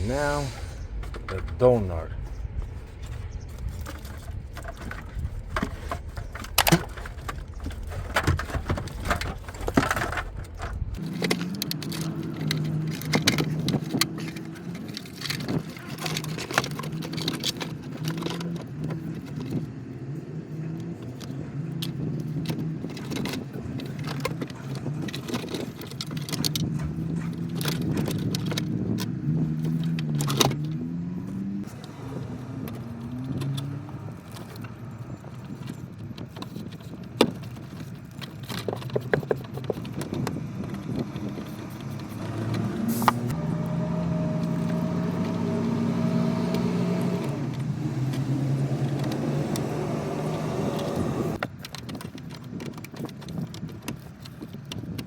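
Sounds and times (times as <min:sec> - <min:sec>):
engine humming: 0:00.0 - 0:51.5
metallic clicks and rattles: 0:00.8 - 0:19.9, 0:20.6 - 0:43.4, 0:46.5 - 0:55.0.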